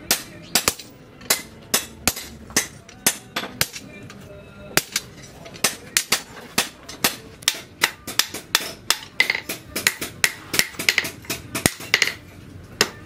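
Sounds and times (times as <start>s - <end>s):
hammer striking metal on anvil: 0.1s - 3.9s, 4.8s - 12.2s.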